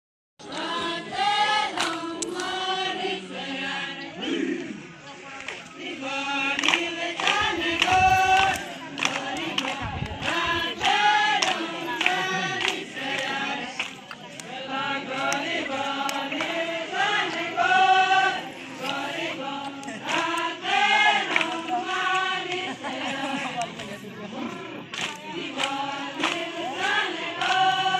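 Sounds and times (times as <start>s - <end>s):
group singing folk song: 0.4s - 27.9s.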